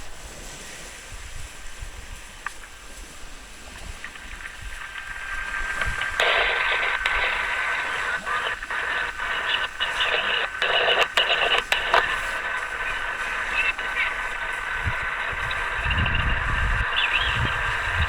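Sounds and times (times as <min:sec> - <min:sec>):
static hiss: 0:00.0 - 0:18.0.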